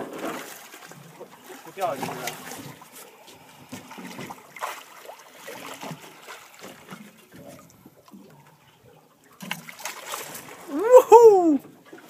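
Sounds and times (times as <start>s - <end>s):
water lapping against boat: 0.0s - 12.0s.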